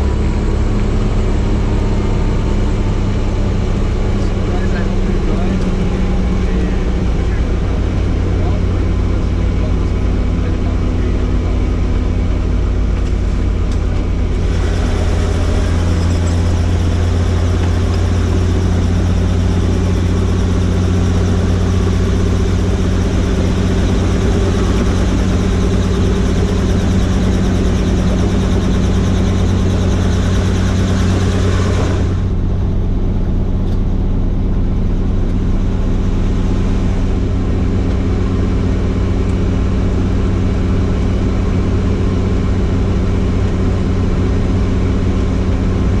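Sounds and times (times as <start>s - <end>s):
helicopter engine and rotor: 0.0s - 46.0s.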